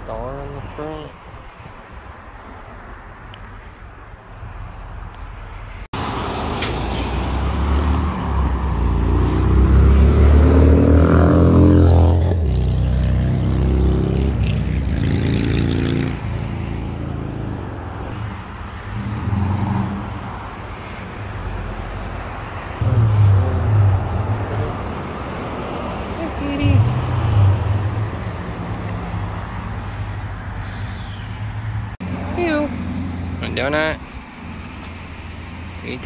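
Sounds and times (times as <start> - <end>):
vehicles passing on street: 0.0 - 36.0.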